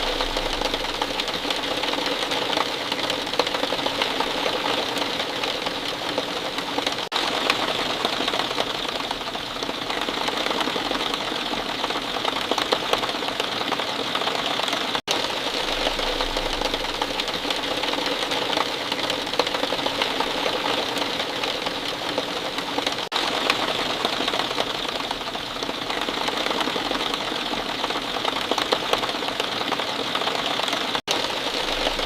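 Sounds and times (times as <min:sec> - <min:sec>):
rain falling steadily: 0:00.0 - 0:32.0.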